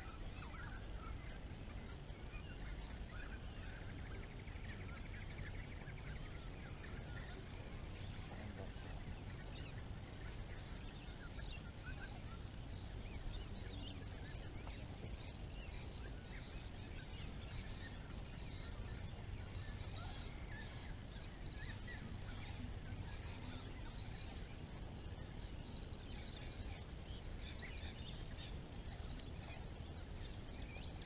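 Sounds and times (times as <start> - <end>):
bird trill: 0.0 - 31.0
birds chirping and calling: 0.0 - 31.0
low steady rumble: 0.0 - 31.0.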